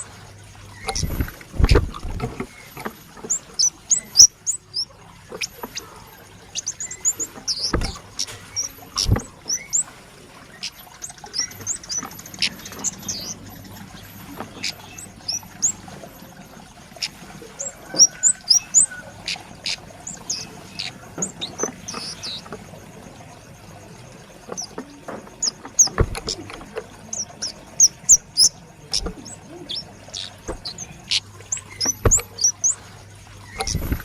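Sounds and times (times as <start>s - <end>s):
bird high chipping calls: 2.5s - 22.6s, 24.5s - 34.0s.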